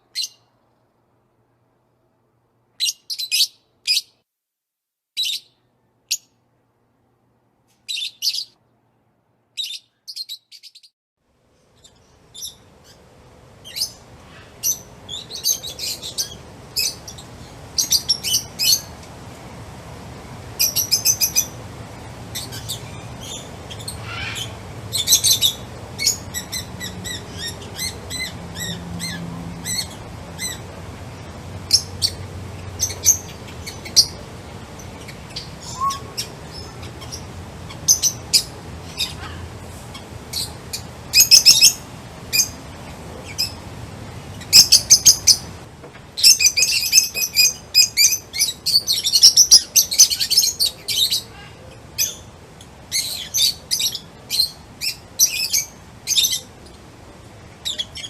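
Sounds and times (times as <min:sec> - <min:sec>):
songbirds chirping and trilling: 0:00.0 - 0:00.8, 0:02.8 - 0:04.2, 0:05.2 - 0:06.4, 0:07.8 - 0:08.6, 0:09.6 - 0:10.9, 0:11.5 - 0:58.0
steady background hiss: 0:11.3 - 0:58.0.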